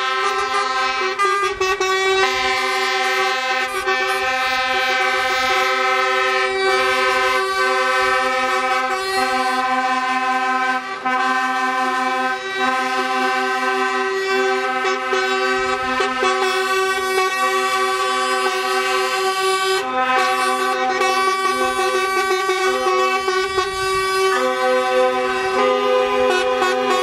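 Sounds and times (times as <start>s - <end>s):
truck air horns blaring: 0.0s - 27.0s.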